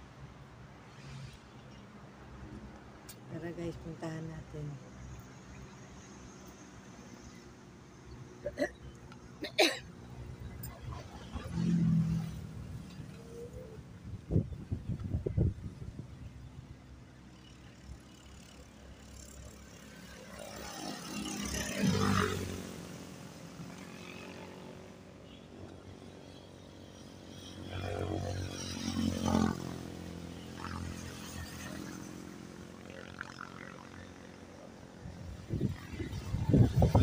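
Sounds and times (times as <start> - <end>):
vehicles passing on concrete road: 0.0 - 37.0.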